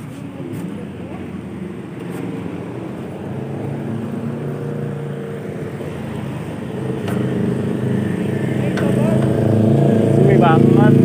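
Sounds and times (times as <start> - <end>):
car engine passing: 0.0 - 11.0
traffic hum: 0.0 - 11.0.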